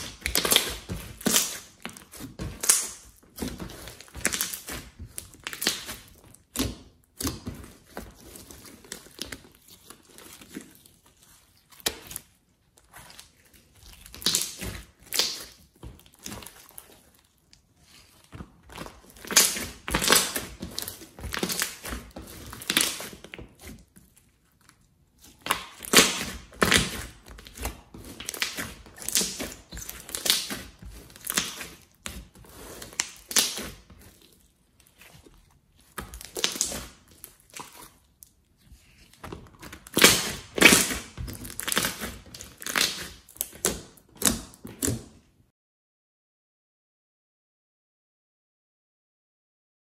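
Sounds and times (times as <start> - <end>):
slime squelching by hand: 0.0 - 45.5.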